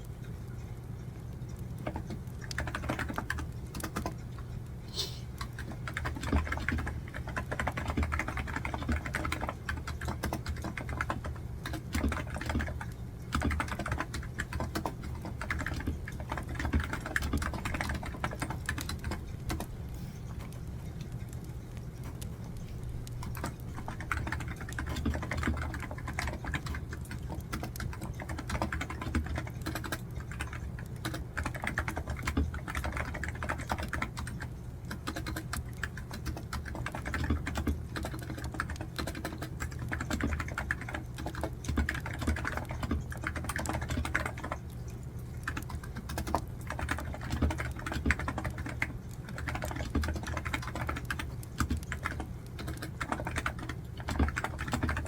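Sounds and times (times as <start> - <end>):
steady low hum: 0.0 - 55.0
keyboard typing: 1.7 - 4.4, 5.4 - 55.0.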